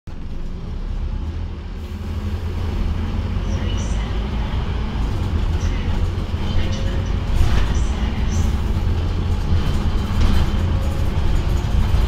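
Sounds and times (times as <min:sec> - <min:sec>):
bus engine low rumble: 0:00.1 - 0:12.0
road noise: 0:00.1 - 0:12.0.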